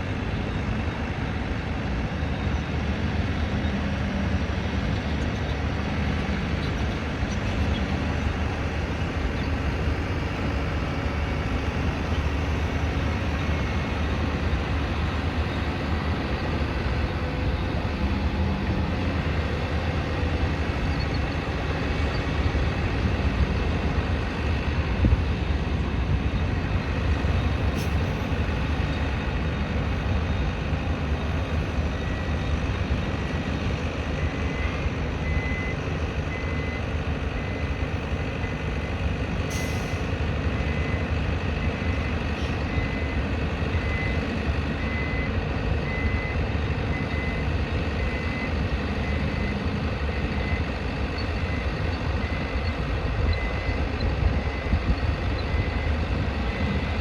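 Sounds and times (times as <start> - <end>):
heavy machinery engines rumbling: 0.0 - 57.0.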